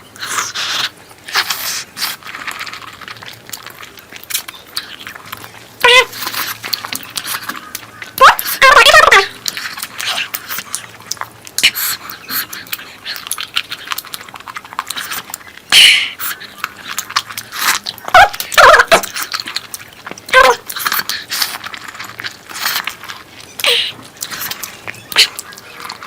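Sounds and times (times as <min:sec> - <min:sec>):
wet chewing and lip smacking: 0:00.1 - 0:26.0.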